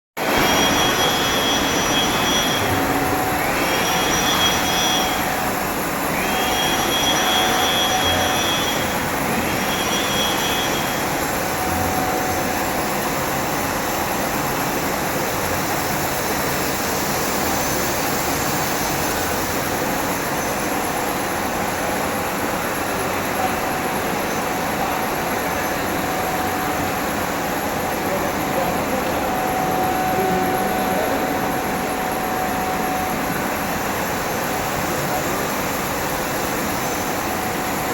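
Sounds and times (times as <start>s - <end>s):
high whine: 0.2s - 37.9s
constant high tone: 0.3s - 13.8s, 19.2s - 37.9s.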